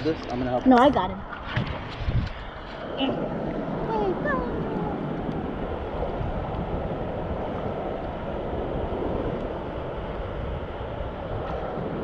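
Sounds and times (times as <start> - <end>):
surf washing on beach: 0.0 - 12.0
wind buffeting microphone: 0.0 - 12.0.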